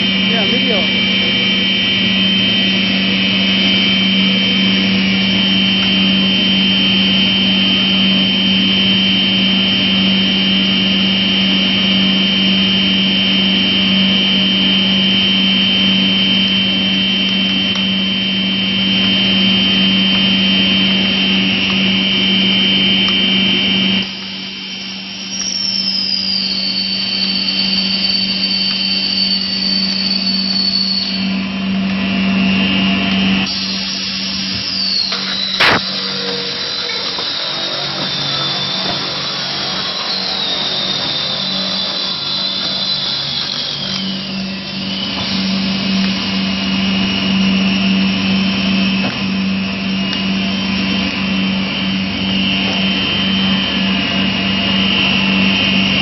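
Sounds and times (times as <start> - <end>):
machine high whine: 0.0 - 56.0
machinery low hum: 0.0 - 56.0.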